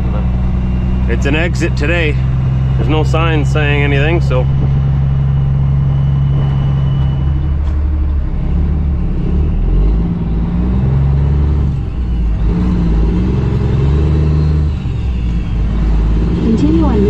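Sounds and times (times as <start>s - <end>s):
diesel truck engine pulling away: 0.0s - 17.0s.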